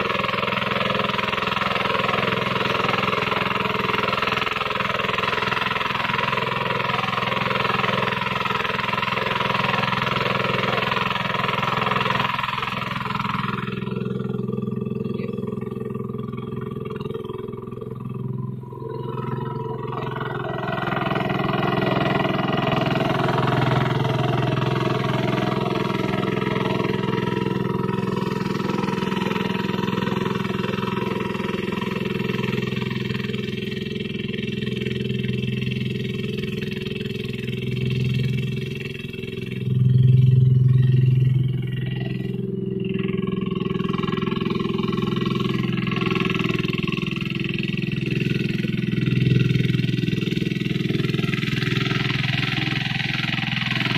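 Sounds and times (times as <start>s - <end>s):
single-cylinder diesel engine running: 0.0s - 53.9s.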